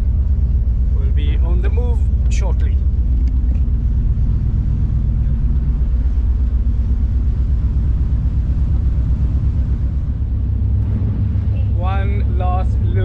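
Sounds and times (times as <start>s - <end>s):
ferry engines low rumble: 0.0s - 13.0s.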